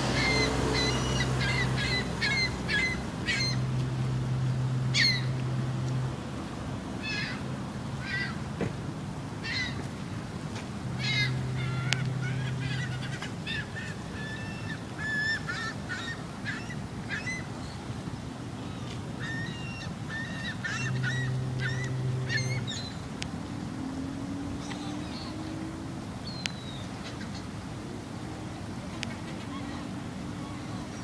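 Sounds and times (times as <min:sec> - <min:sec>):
gulls calling: 0:00.0 - 0:31.0.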